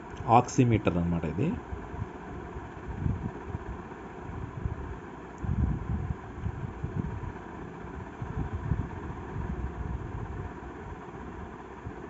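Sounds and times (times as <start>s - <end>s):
low gusty rumble: 0.0s - 12.0s.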